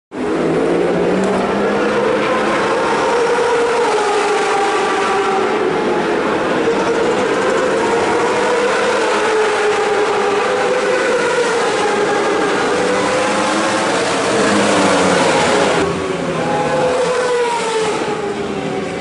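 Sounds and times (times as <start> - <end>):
motorbike engines droning: 0.1 - 19.0.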